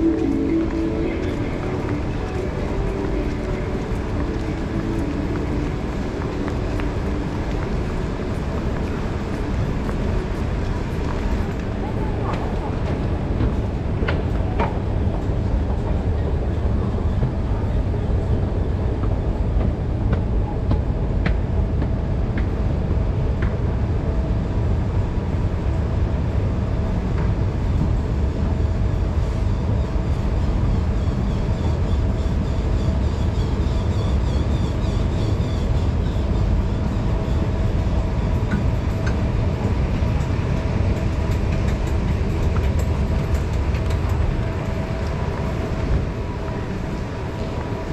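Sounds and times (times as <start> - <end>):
escalator rumble and hum: 0.0 - 47.9.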